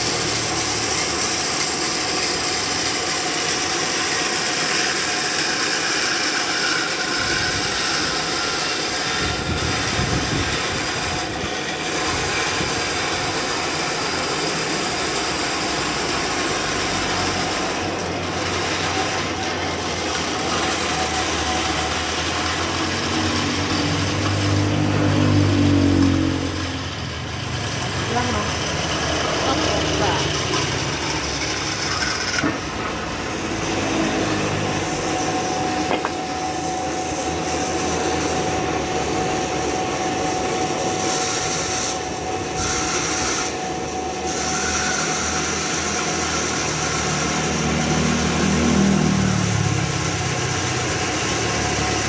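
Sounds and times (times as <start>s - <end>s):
band sawmill cutting timber: 0.0s - 52.0s.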